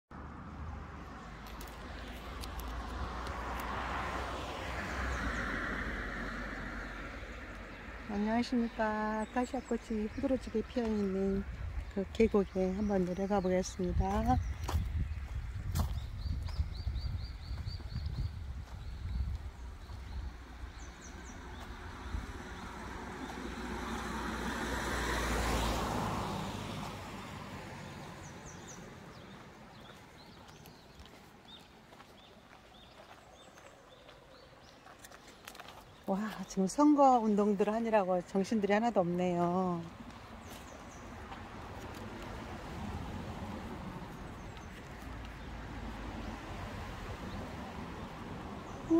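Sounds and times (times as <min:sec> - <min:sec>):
vehicle passing: 0:00.2 - 0:16.1, 0:17.0 - 0:31.8, 0:36.4 - 0:48.9.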